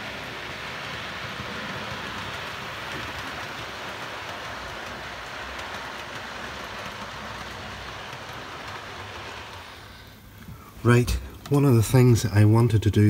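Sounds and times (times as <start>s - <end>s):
model train wheels rolling on rails: 0.0s - 13.0s.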